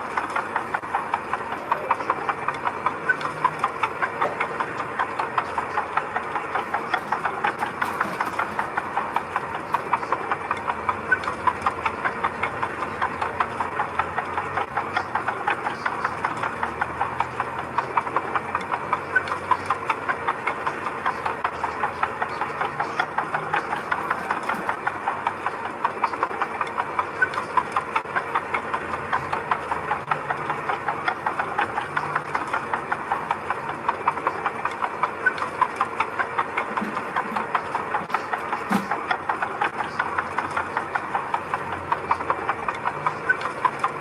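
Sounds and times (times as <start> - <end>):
diesel engine knocking clatter: 0.0 - 44.0.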